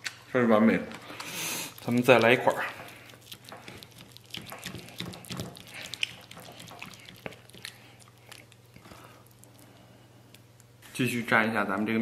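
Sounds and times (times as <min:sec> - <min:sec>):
faint hum: 0:00.0 - 0:12.0
soft wet squishes: 0:00.9 - 0:10.9.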